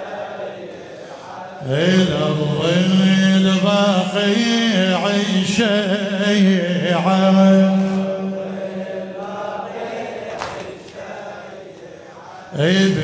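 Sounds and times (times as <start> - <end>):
man chanting through a microphone: 0.7 - 9.8, 11.3 - 13.0.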